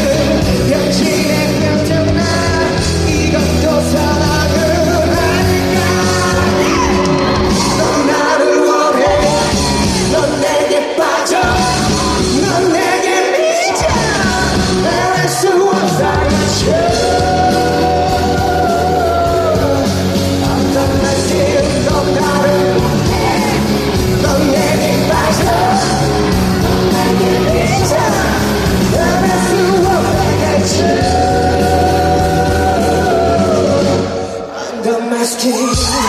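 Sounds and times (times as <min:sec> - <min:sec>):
live rock band playing: 0:00.0 - 0:34.6.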